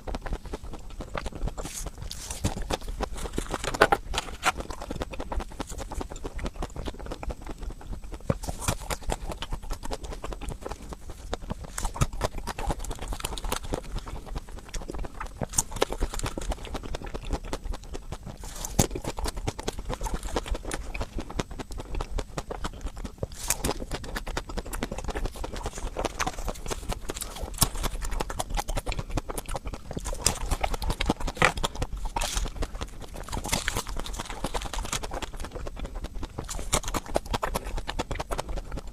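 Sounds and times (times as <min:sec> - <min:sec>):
crunchy ice cream being chewed: 0:00.0 - 0:38.9.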